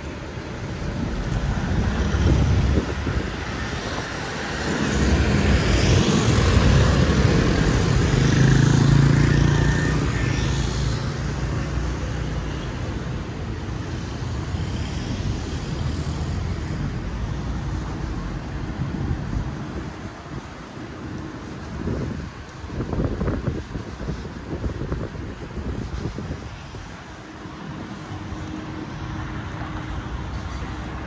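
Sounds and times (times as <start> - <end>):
scooters and cars driving past: 0.0 - 31.0
steady traffic rumble: 0.0 - 31.0.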